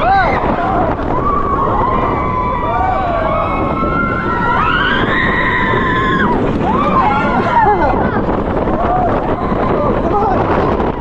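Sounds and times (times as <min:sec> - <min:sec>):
riders screaming: 0:00.0 - 0:10.1
wind rushing past microphone: 0:00.0 - 0:11.0.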